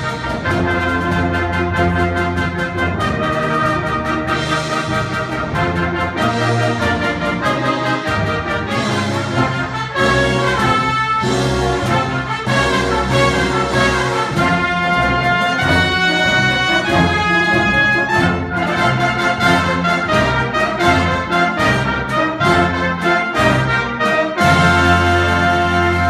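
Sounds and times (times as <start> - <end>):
brass ensemble playing a march: 0.0 - 26.0.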